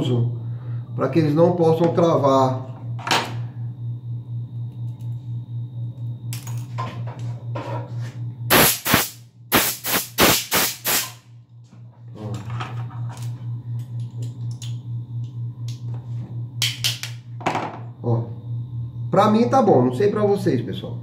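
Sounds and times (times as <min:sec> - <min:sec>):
pulsing machine hum: 0:00.0 - 0:21.0.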